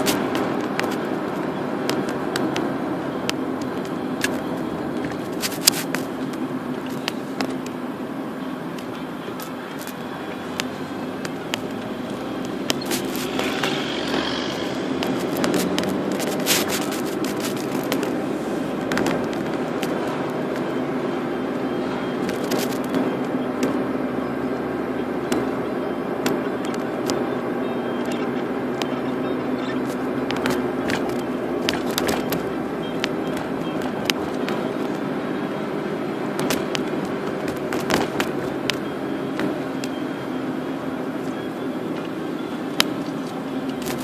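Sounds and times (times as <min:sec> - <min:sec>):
car engine and tyre hum: 0:00.0 - 0:44.0.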